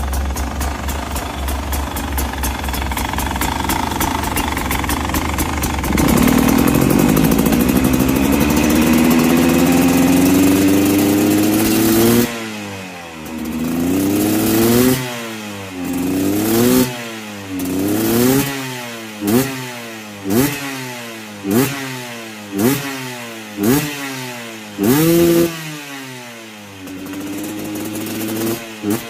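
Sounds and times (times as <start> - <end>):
two-stroke engine revving: 0.0 - 29.0.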